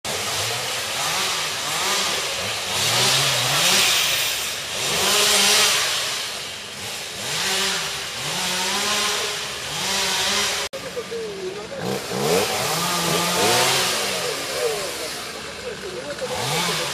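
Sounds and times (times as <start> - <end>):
chainsaw engine revving: 0.1 - 16.9.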